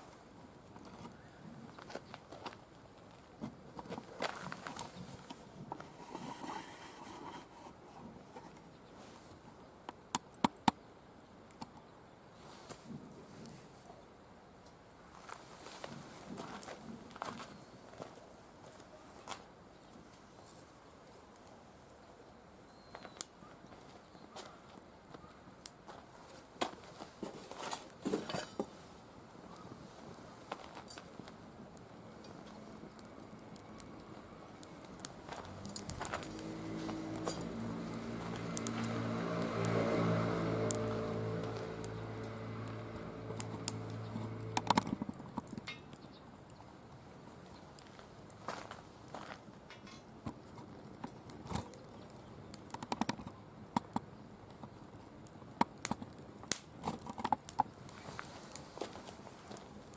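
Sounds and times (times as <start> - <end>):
firewood crackling and popping: 0.0 - 11.8, 14.6 - 59.9.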